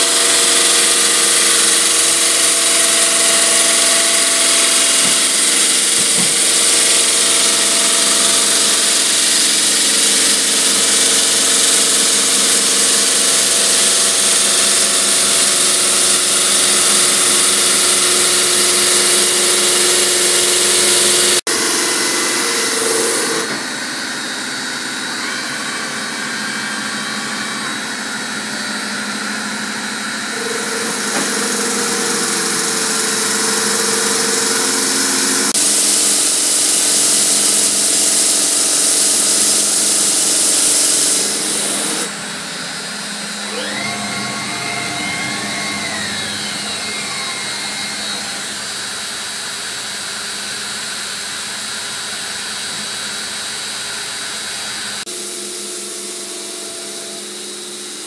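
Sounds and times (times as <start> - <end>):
machine whines: 0.0 - 51.0
saw motor hum: 0.0 - 51.2.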